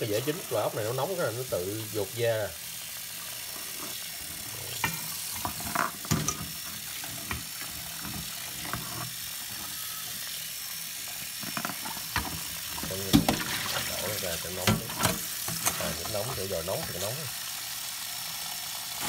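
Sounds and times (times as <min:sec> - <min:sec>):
tap water running into pot: 0:00.0 - 0:19.0.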